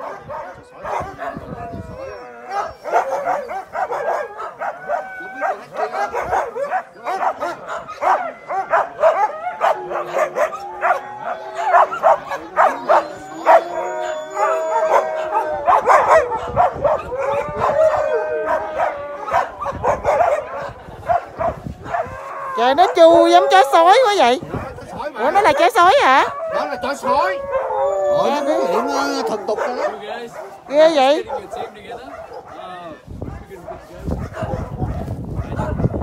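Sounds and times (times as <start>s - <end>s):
sled dogs barking and howling: 0.0s - 36.0s.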